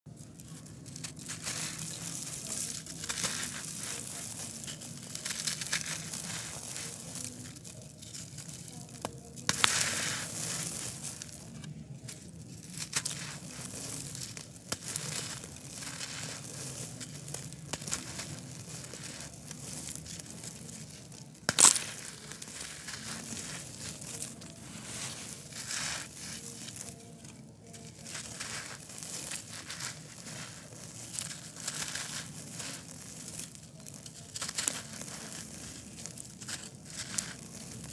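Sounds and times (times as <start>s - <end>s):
hands crushing gritty concrete: 0.3s - 37.9s.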